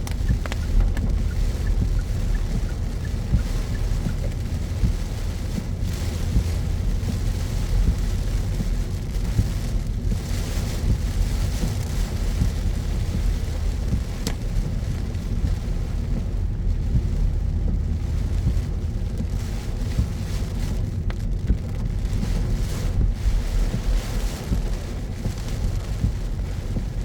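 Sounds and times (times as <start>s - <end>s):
rain and tyres hissing: 0.0s - 27.0s
road and engine rumble: 0.0s - 27.0s.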